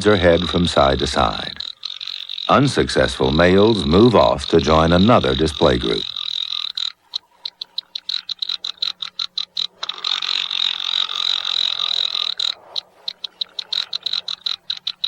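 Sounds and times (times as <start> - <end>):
frigatebirds calling: 0.0 - 15.0.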